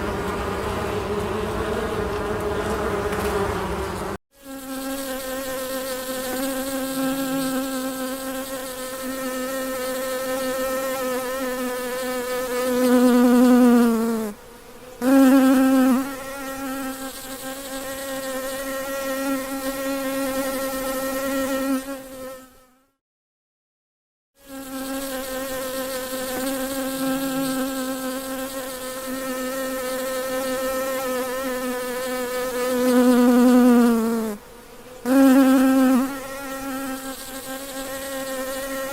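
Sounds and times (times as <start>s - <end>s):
honey bee buzzing: 0.0s - 23.0s, 24.4s - 38.9s.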